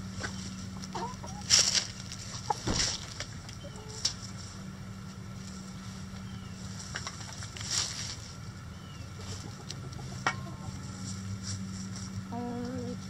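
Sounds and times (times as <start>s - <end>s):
chickens clucking: 0.0s - 4.7s, 5.4s - 13.0s
chickens rustling in straw: 0.0s - 13.0s
steady low hum: 0.0s - 13.0s.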